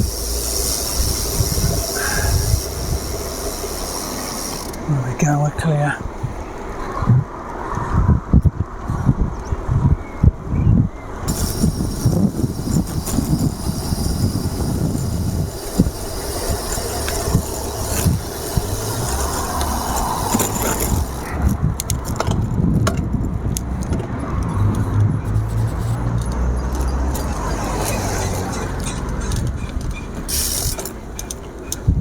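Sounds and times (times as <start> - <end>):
bicycle clicks and rattles: 0.0 - 5.4, 11.1 - 32.0
passing cars: 0.0 - 32.0.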